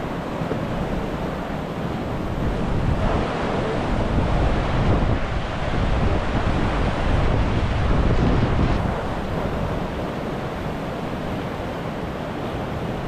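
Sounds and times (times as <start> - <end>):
whitewater rapids roaring: 0.0 - 13.0
wind buffeting microphone: 0.3 - 11.6.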